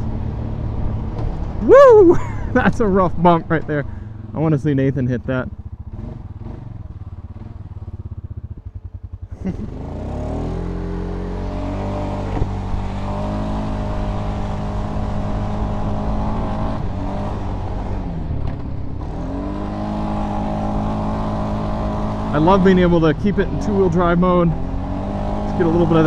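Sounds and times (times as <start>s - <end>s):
atv engine revving: 1.6s - 26.0s.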